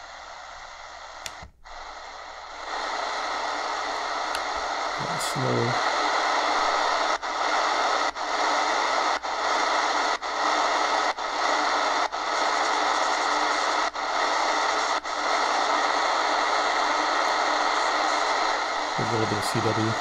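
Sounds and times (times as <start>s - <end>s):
shortwave radio static hiss: 0.0s - 20.0s.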